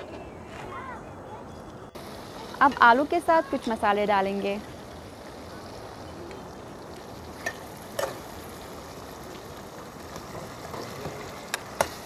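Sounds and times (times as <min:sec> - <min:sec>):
food sizzling in a pot: 0:02.0 - 0:12.0.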